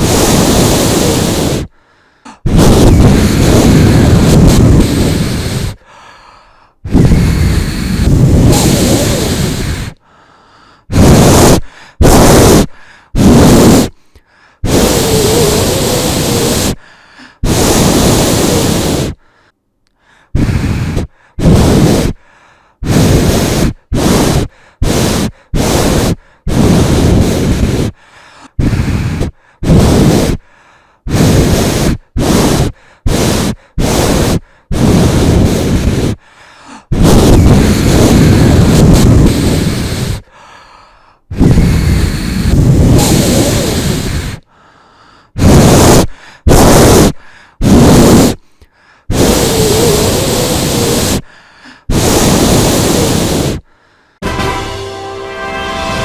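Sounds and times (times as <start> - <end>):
person blowing hard puffs of breath: 0.0 - 56.0.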